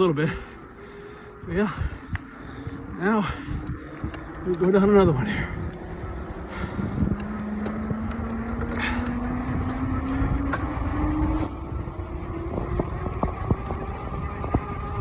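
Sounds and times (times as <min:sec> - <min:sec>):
electric bike motor hum: 0:00.0 - 0:15.0
wind rumbling on microphone: 0:00.0 - 0:15.0.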